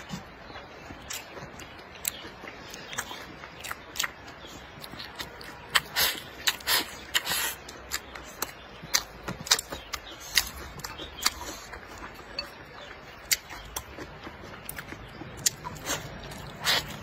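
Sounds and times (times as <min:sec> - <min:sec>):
mouth smacking and chewing: 0:00.0 - 0:17.0.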